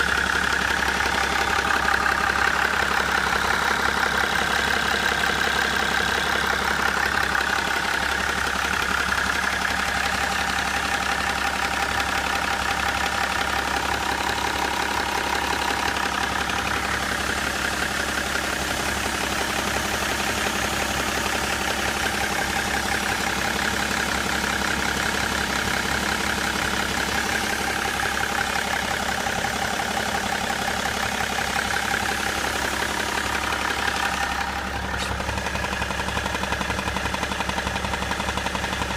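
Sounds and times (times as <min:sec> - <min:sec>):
diesel engine idling: 0:00.0 - 0:38.9
fast even engine knocking: 0:00.0 - 0:38.9.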